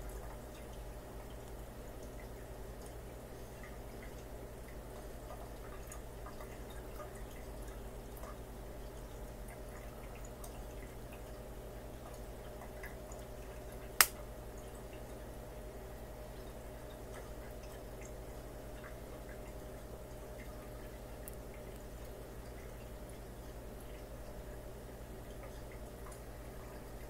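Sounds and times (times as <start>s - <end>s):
water dripping and trickling: 0.0s - 15.4s, 16.1s - 27.0s.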